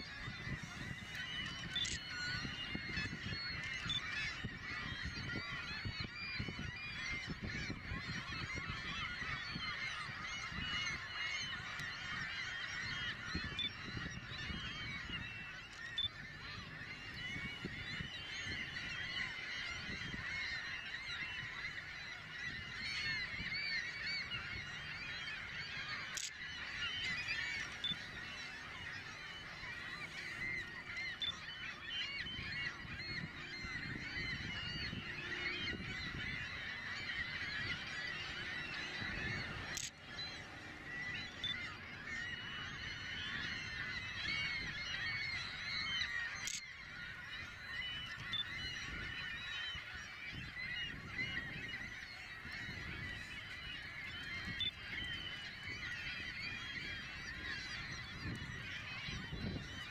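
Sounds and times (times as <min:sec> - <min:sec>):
gulls calling: 0:00.0 - 0:59.9.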